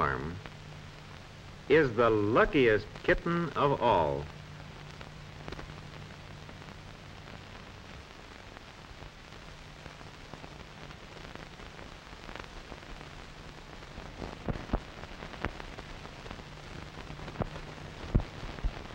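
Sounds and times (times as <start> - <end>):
faint low hum: 0.0 - 18.9
film soundtrack hiss and crackle: 0.0 - 18.9.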